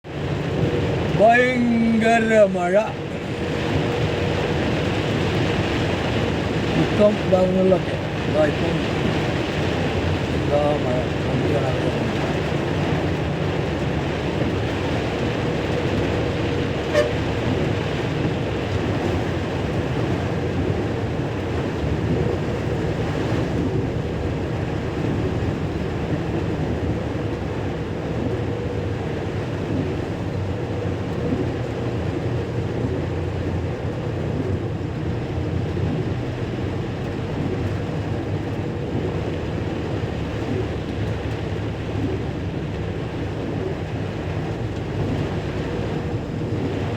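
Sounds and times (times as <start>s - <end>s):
heavy rain: 0.0s - 46.9s
vehicle engine and road rumble: 0.0s - 46.9s.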